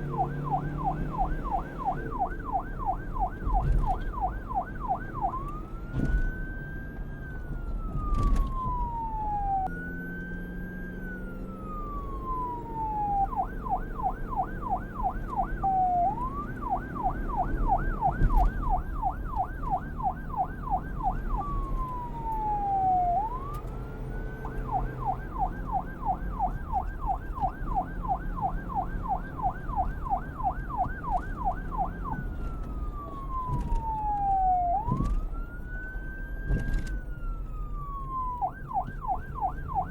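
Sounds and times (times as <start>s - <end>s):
police siren wail and yelp: 0.0s - 39.9s.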